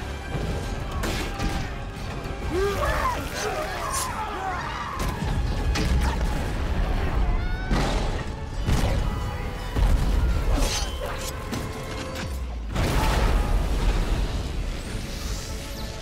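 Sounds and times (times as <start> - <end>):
battle soundtrack music: 0.0 - 16.0.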